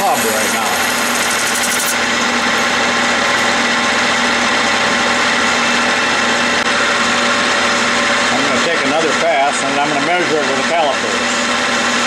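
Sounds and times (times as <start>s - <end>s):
lathe machine hum: 0.0s - 9.8s.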